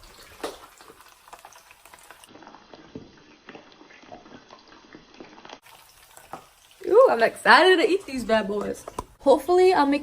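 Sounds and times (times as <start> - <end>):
dumplings sizzling in oil: 0.0 - 10.0.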